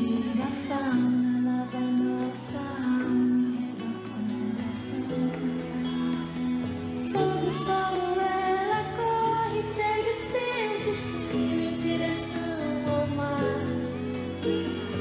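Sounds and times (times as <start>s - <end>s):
woman singing into microphone: 0.0s - 14.2s.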